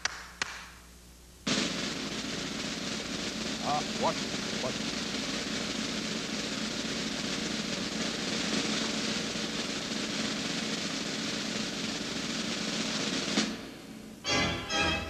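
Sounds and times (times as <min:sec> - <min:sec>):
snare drum roll: 0:01.4 - 0:15.0
sharp snare drum hit: 0:01.5 - 0:15.0.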